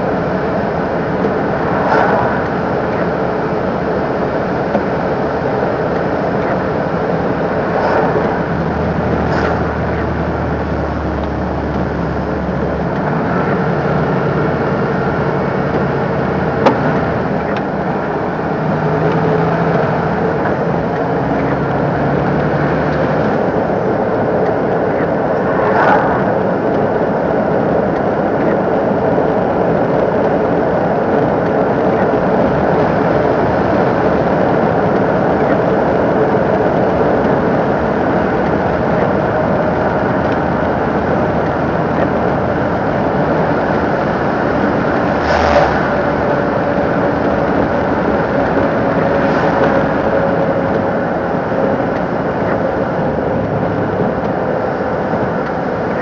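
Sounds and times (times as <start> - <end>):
lorry diesel engine running: 0.0 - 56.0
road noise: 0.0 - 56.0.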